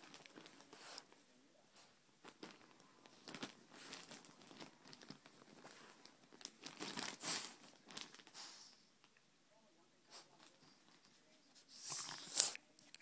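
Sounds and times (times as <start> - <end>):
rustling and crinkling: 0.0 - 8.8, 10.1 - 13.0.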